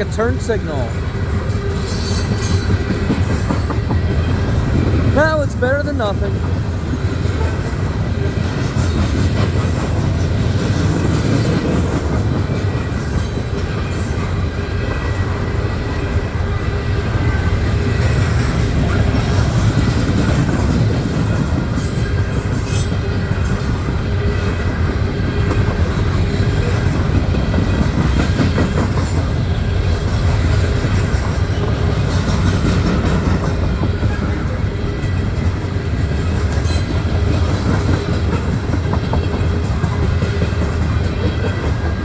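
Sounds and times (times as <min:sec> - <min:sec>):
freight train rolling past: 0:00.0 - 0:42.0.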